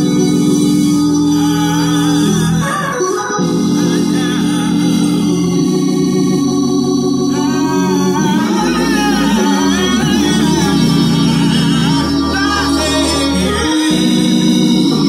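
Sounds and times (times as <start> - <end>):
man singing: 0.0 - 15.0
organ playing sustained chords: 0.0 - 15.0.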